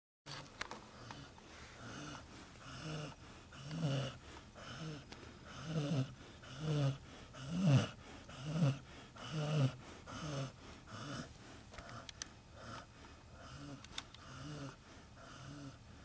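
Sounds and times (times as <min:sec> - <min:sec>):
dog snoring: 0:00.3 - 0:16.0.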